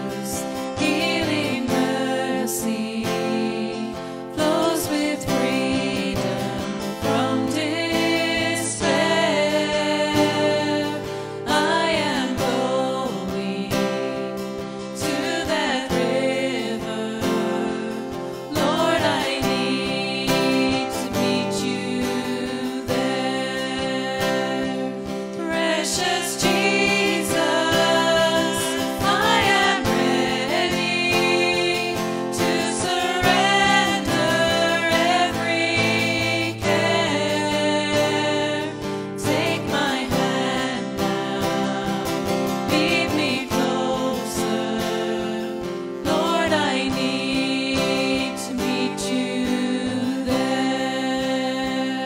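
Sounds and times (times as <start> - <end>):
person singing worship song: 0.0 - 52.0
strummed acoustic guitar: 0.0 - 52.0.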